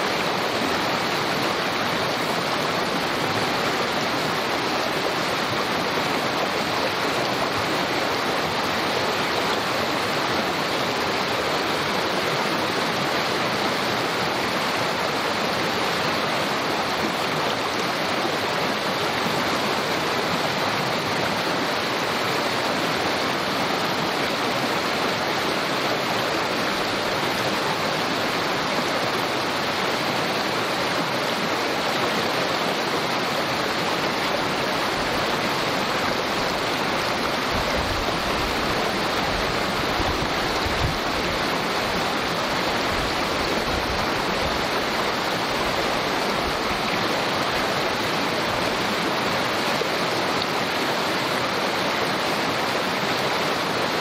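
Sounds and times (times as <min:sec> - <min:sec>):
creek babbling: 0:00.0 - 0:54.0.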